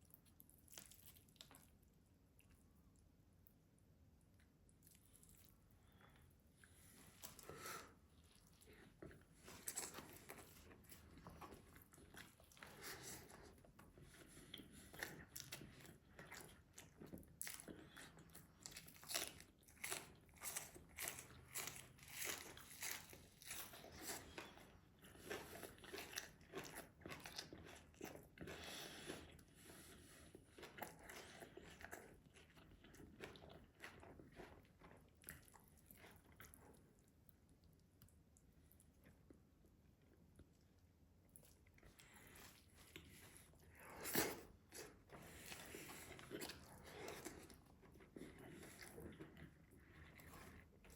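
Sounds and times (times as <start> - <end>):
chewing and biting food: 4.3 - 50.9.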